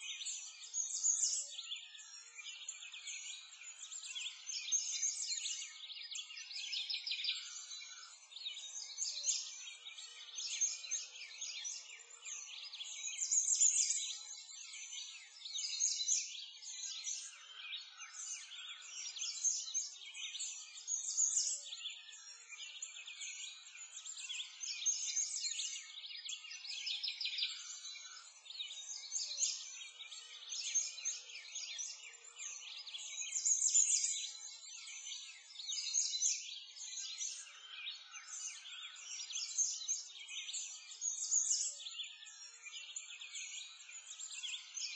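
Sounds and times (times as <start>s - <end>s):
songbirds chirping and twittering: 0.0s - 44.9s.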